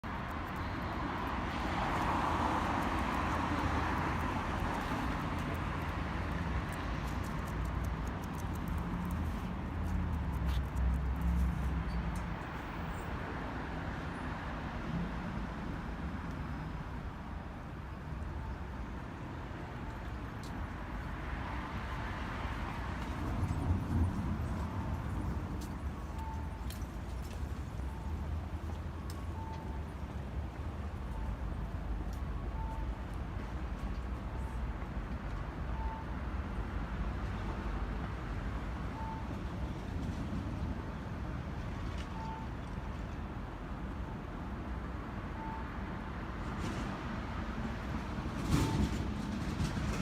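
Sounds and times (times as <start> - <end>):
traffic noise: 0.0 - 50.0.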